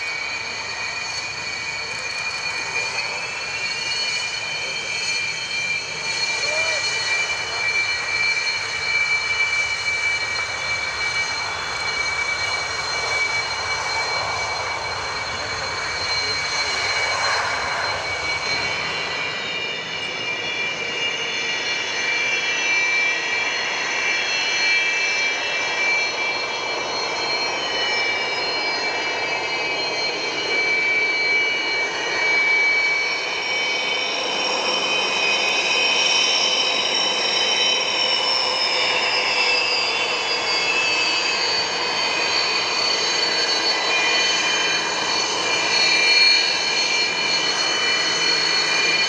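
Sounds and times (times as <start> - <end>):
jet engines rushing and whining: 0.0 - 49.0.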